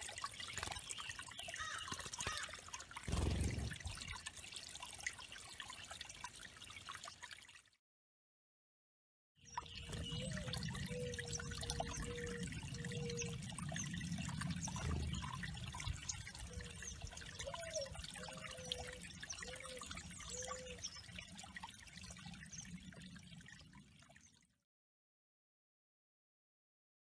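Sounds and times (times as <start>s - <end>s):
waterfall trickling and splashing: 0.0s - 7.8s, 9.5s - 24.6s.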